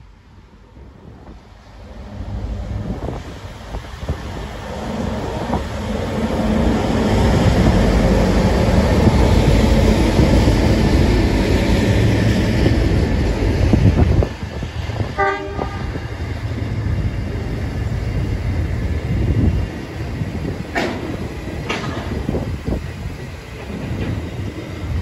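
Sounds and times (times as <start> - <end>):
locomotive engine rumble: 0.6 - 25.0.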